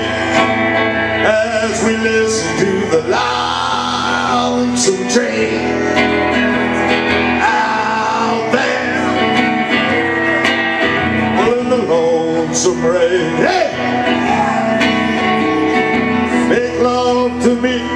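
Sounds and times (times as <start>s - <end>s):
man singing: 0.0s - 10.4s, 11.1s - 17.9s
electric guitar strummed: 0.0s - 17.9s.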